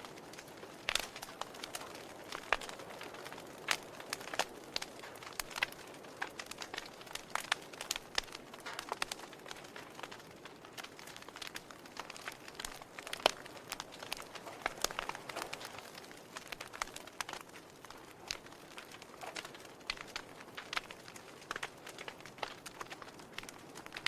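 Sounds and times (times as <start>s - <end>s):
sharp pops and snaps: 0.0s - 24.0s
wood fire crackling: 0.0s - 24.0s.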